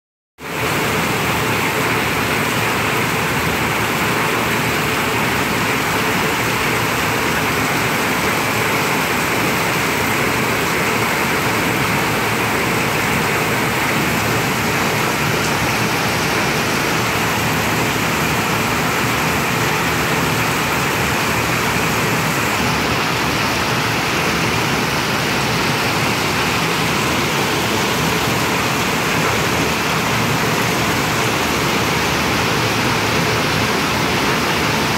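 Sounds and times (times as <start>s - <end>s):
heavy rain on a tin roof: 0.4s - 34.9s.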